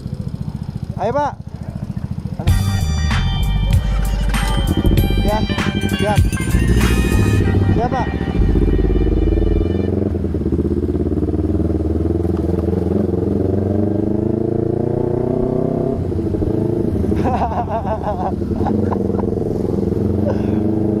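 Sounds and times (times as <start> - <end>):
motorcycle engine under way: 0.0 - 3.0, 4.3 - 21.0.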